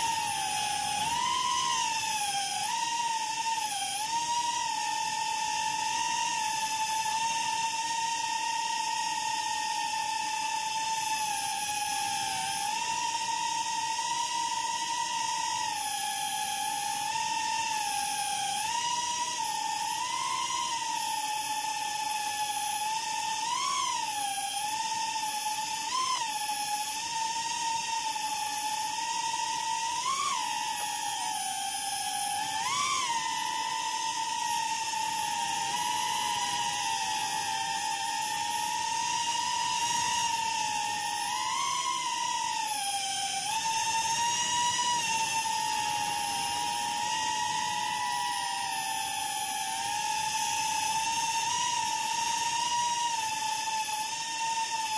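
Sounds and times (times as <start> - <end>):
small electric motors whining: 0.0 - 54.9.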